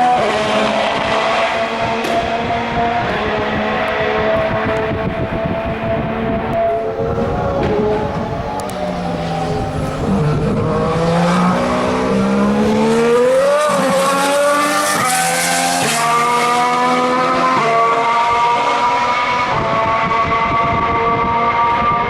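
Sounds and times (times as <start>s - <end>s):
racing car engine accelerating: 0.0s - 22.0s.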